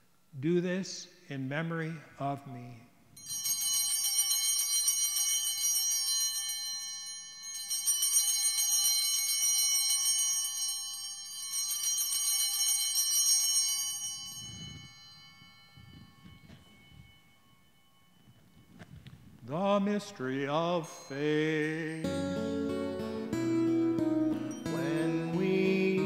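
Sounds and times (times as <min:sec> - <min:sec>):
altar bells ringing: 0:03.2 - 0:26.0.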